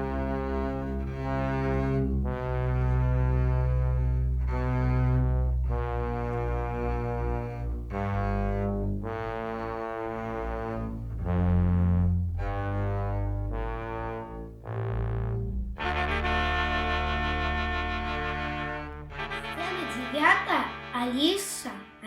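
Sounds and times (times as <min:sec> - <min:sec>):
low bowed-string notes: 0:00.0 - 0:22.0.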